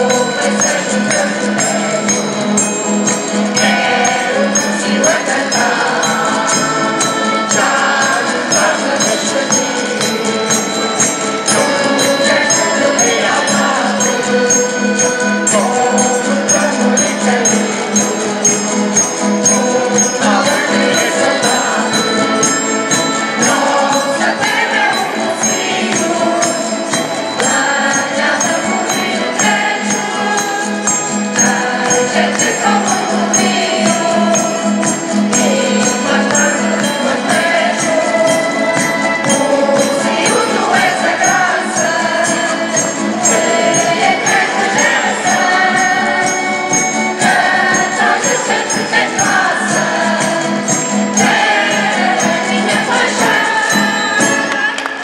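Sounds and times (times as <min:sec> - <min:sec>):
high percussion beat: 0:00.0 - 0:54.8
held instrumental notes: 0:00.0 - 0:55.0
mixed choir singing: 0:00.0 - 0:55.0.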